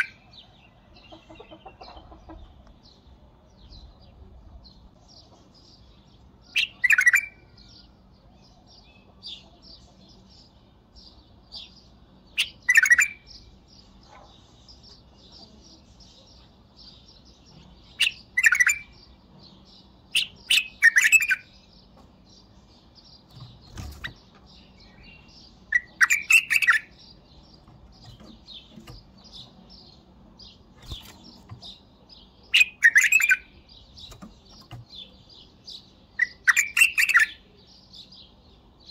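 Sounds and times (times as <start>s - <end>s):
faint high bird chirping: 0.0s - 38.9s.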